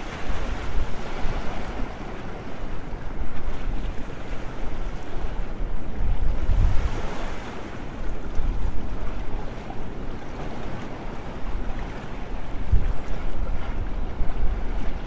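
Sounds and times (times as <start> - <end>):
waves breaking on rocky shore: 0.0 - 15.0
wind buffeting microphone: 0.0 - 15.0.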